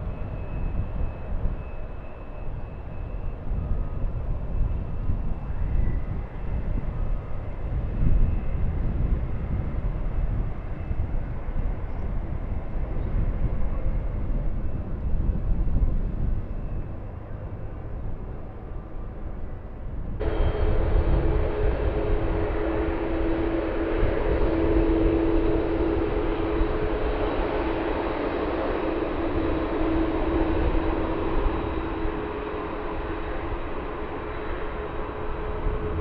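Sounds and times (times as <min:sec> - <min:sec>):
faint high engine whine: 0:00.0 - 0:36.0
jet engines rumbling: 0:00.0 - 0:36.0.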